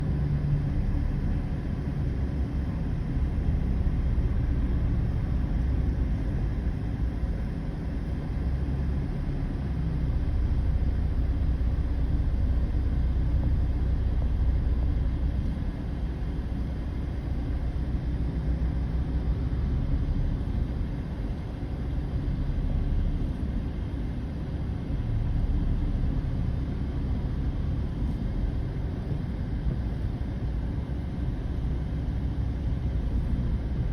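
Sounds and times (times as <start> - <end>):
low vehicle rumble: 0.0 - 33.9.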